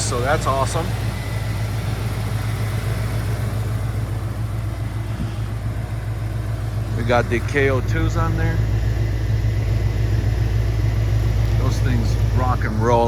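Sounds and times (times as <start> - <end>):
engine idling steadily: 0.0 - 13.0.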